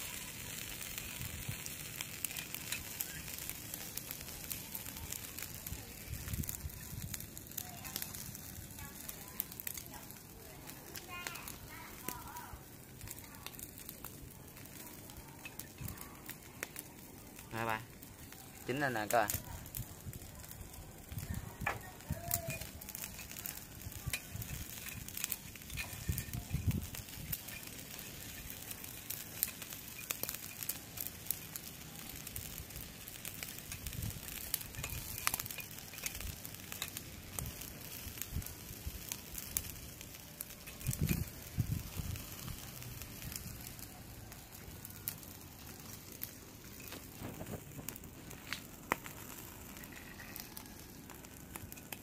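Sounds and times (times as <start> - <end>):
meat sizzling on charcoal grill: 0.0 - 52.0.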